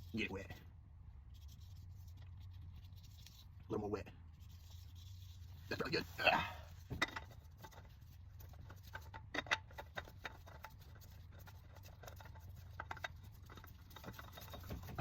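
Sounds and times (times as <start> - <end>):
steady low hum: 0.0 - 15.0
oil filter scraping and clicking: 1.3 - 3.7, 4.4 - 15.0.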